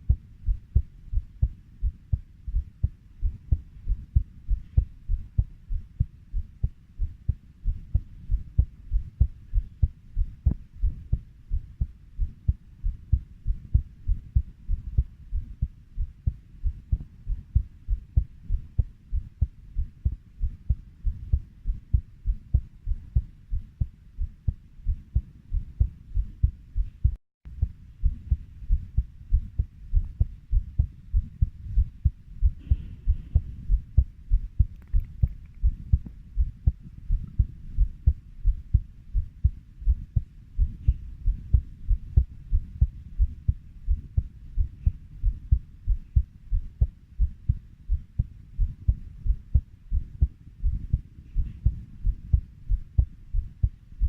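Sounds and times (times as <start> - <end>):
heartbeat thuds: 0.0 - 54.0.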